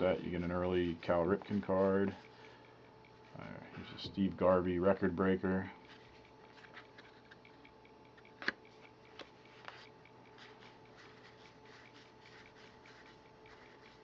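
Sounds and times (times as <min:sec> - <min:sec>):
cards ticking and rustling: 0:00.0 - 0:14.0
faint steady hum: 0:00.0 - 0:14.0.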